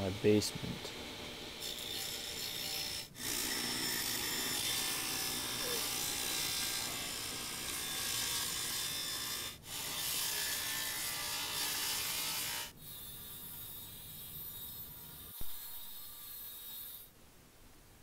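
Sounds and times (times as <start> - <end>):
table saw cutting wood: 0.0 - 17.1.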